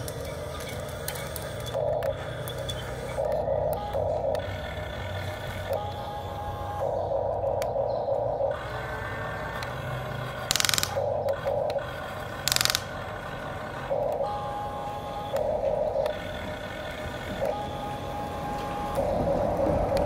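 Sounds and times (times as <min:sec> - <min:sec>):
toy excavator motors whirring: 0:00.0 - 0:20.0.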